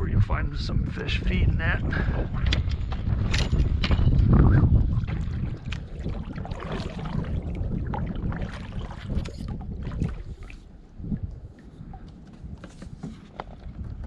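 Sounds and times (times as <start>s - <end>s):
wind buffeting microphone: 0.0s - 14.0s
water slapping against hull: 0.6s - 14.0s.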